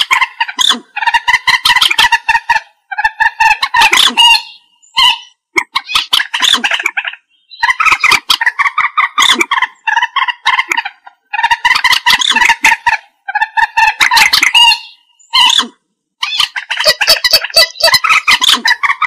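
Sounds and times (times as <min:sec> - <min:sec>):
moorhen calling: 0:00.0 - 0:19.0.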